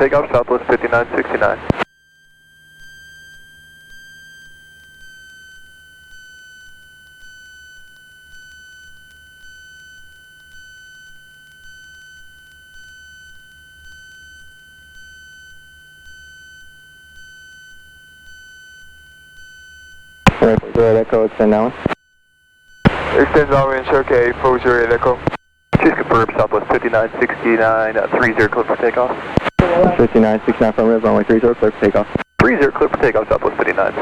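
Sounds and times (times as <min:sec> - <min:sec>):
faint pulsing low hum: 0:00.0 - 0:34.0.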